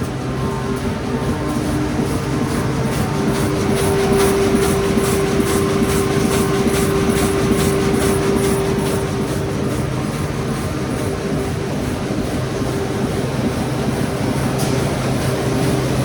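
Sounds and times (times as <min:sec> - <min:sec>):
machine clatter: 0:00.0 - 0:16.0
machine hum: 0:00.0 - 0:16.0.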